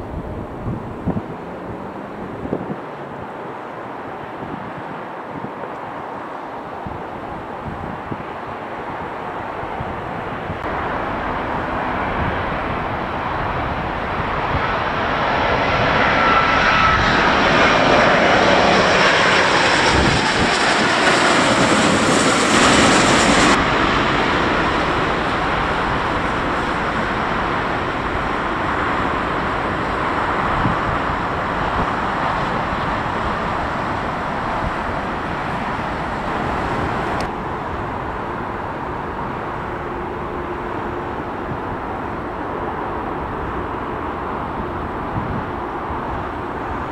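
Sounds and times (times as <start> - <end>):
jet aircraft passing overhead: 0.0 - 46.9.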